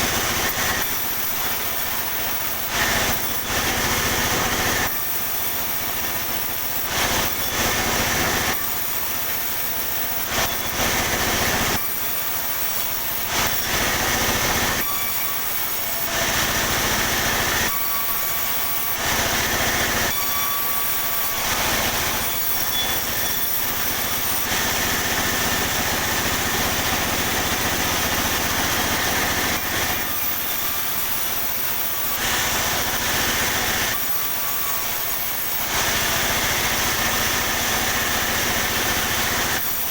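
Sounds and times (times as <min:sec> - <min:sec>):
sawmill saw cutting boards: 0:00.0 - 0:39.9.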